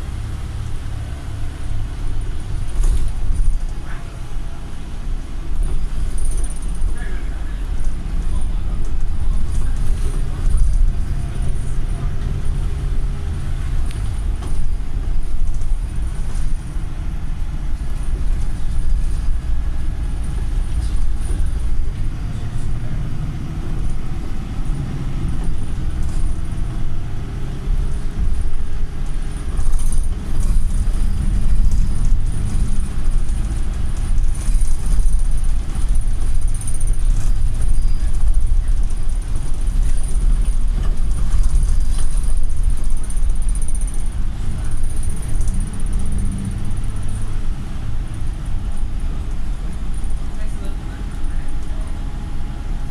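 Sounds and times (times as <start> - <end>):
bus engine and road rumble: 0.0 - 52.9.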